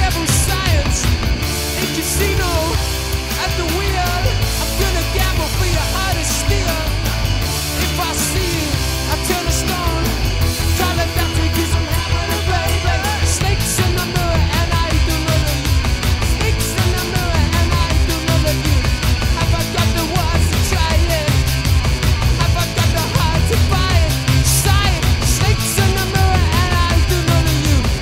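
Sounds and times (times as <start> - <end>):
bass guitar: 0.0 - 28.0
distorted electric guitars: 0.0 - 28.0
drums: 0.0 - 28.0.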